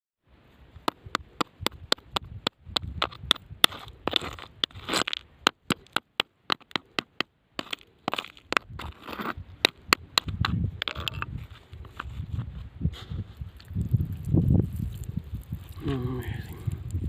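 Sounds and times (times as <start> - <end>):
scraping and crunching: 0.8 - 16.7.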